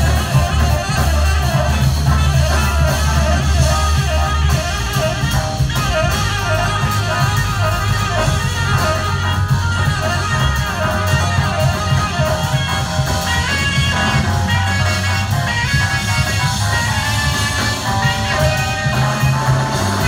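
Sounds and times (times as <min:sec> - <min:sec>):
jazz band playing: 0:00.0 - 0:20.0
tenor saxophone lead: 0:00.0 - 0:20.0.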